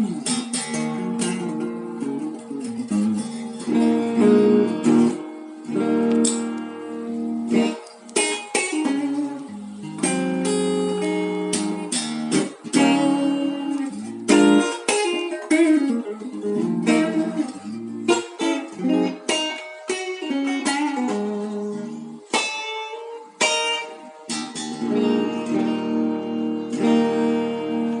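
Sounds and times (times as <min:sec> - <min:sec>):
electric guitar chords and notes: 0:00.0 - 0:28.0.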